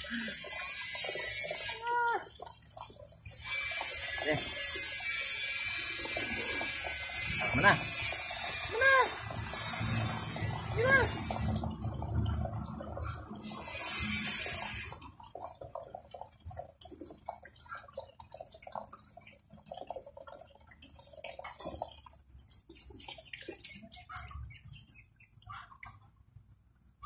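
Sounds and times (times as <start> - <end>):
water rushing into basin: 0.0 - 24.8
soft water splashes: 0.0 - 27.0.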